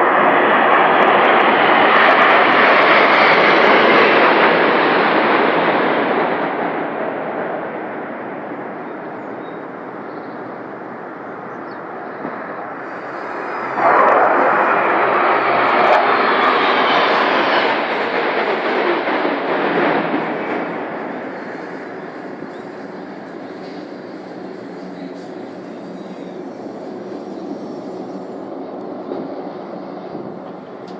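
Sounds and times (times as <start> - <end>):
jet aircraft flying over: 0.0 - 30.9.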